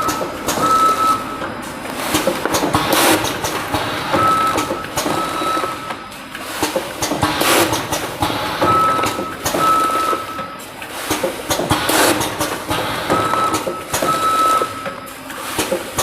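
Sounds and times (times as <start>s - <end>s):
packing machine clatter: 0.0s - 16.0s.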